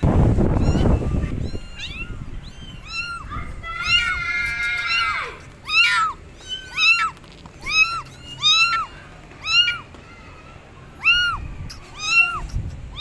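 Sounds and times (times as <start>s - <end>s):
kitten meowing: 0.5s - 9.9s, 11.0s - 13.0s.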